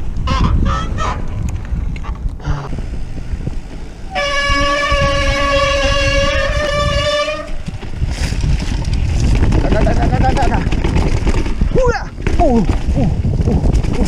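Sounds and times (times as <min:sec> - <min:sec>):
tyres rumbling on dirt trail: 0:00.0 - 0:14.0.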